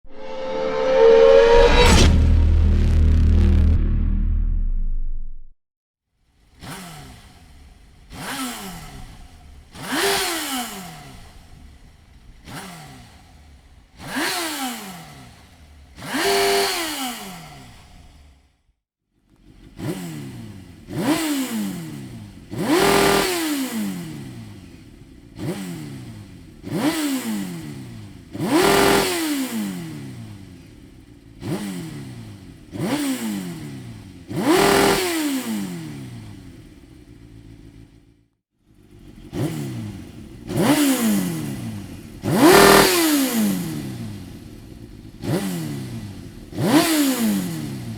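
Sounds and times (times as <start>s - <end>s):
motorcycle engine revving: 6.4s - 18.6s, 19.2s - 47.9s.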